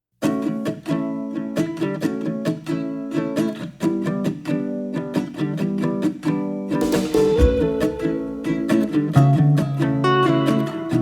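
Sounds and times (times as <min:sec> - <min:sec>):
plucked acoustic guitar melody: 0:00.2 - 0:11.0.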